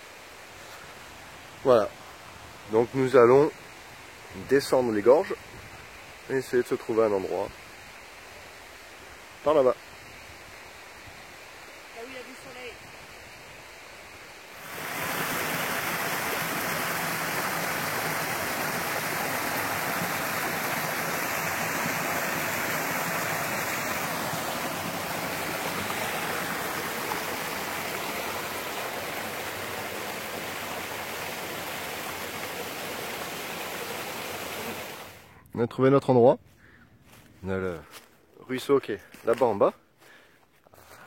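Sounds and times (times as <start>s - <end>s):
stream rushing: 0.0s - 35.3s.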